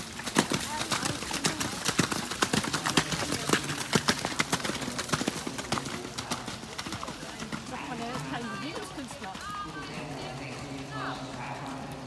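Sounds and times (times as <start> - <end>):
hooves trotting in mud: 0.0 - 12.0.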